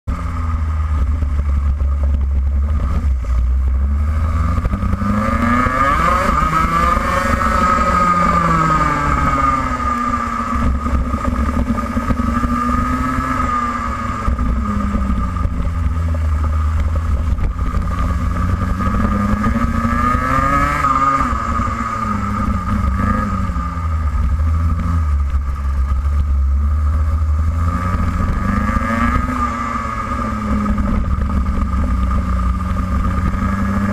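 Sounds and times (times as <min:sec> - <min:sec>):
low rumble: 0:00.0 - 0:33.9
kart engine revving: 0:00.1 - 0:33.9.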